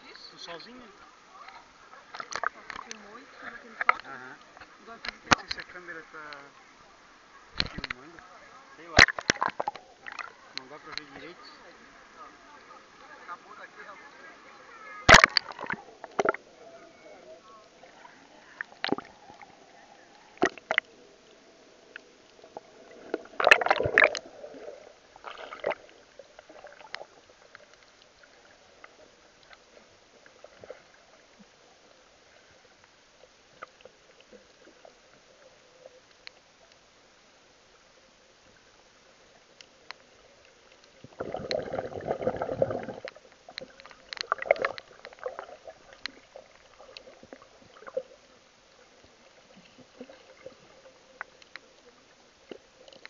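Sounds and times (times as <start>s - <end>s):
rushing water: 0.0s - 35.6s, 40.2s - 53.0s
muffled underwater sloshing: 0.0s - 53.0s.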